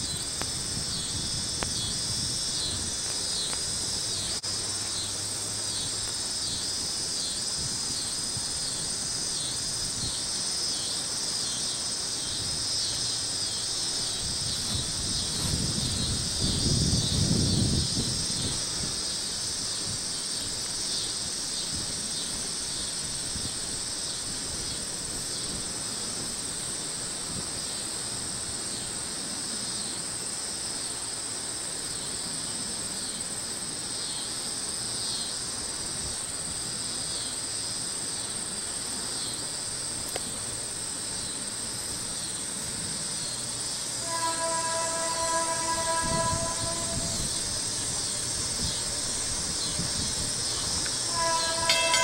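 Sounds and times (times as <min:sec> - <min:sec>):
faint low train rumble: 0:00.0 - 0:52.0
insects chirring: 0:00.0 - 0:52.0.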